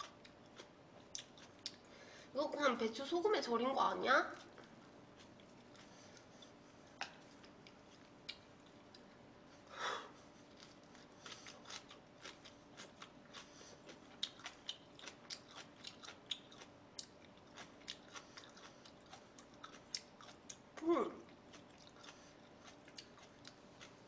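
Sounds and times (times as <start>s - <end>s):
crunchy chewing: 0.0s - 1.9s, 4.3s - 24.0s.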